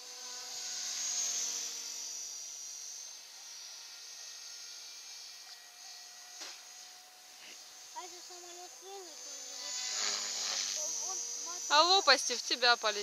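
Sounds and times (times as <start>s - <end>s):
helicopter motor whine: 0.0s - 13.0s.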